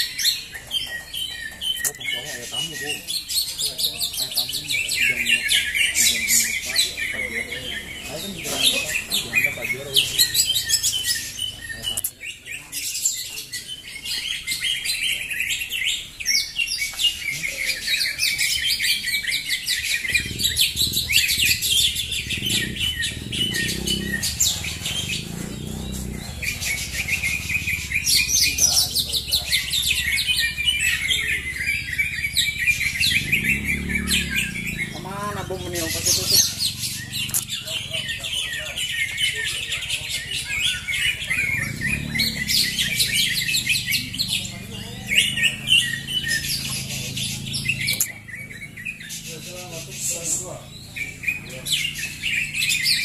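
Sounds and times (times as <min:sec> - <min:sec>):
birds chirping and trilling: 0:00.0 - 0:53.0
low murmuring voices: 0:00.0 - 0:53.0.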